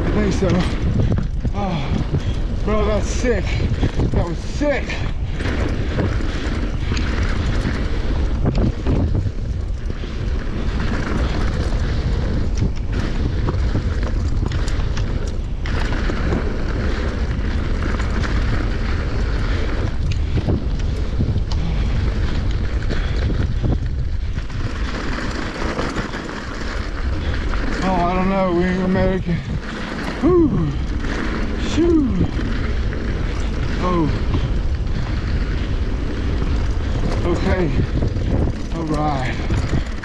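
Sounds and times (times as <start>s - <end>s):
bike rattling and knocking: 0.0s - 40.0s
tyres rolling on gravel trail: 0.0s - 40.0s
wind buffeting microphone: 0.0s - 40.0s.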